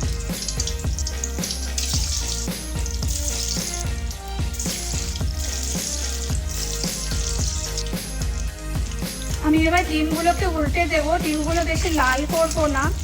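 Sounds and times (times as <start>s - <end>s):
background music with steady beat: 0.0s - 13.0s
food sizzling in hot oil: 0.0s - 13.0s.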